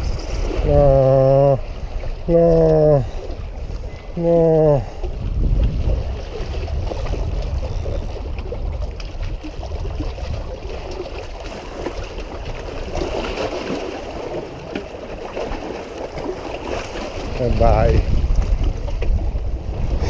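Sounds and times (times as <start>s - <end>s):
wind rumble on microphone: 0.0s - 13.8s, 16.8s - 20.0s
waves lapping against rocks: 0.0s - 20.0s.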